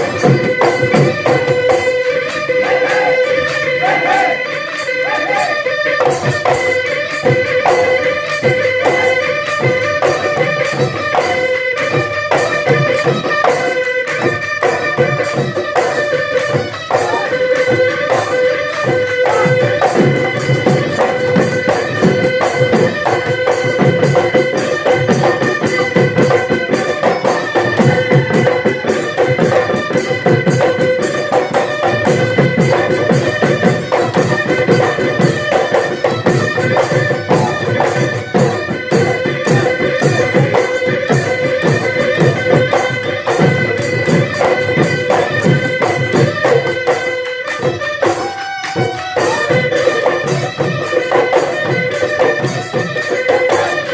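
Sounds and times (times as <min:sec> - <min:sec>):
fast hand-drumming: 0:00.0 - 0:04.5, 0:05.1 - 0:53.9.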